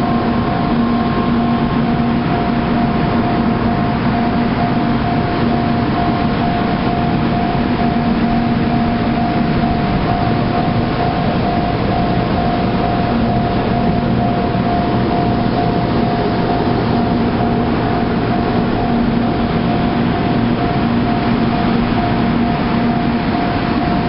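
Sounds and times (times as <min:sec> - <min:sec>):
level crossing alarm two-note tone: 0:00.0 - 0:24.0.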